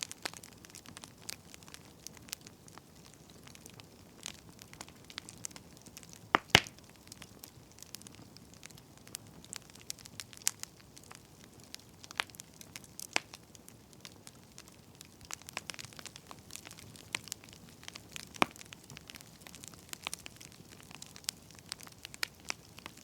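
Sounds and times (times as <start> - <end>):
burning firewood crackling: 0.0 - 23.0.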